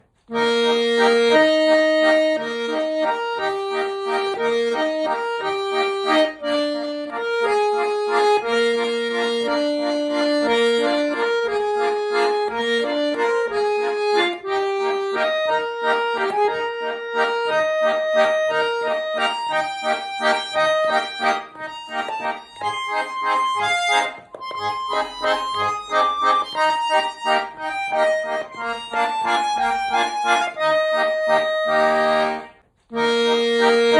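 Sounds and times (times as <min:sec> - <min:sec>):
button accordion folk tune: 0:00.0 - 0:33.9.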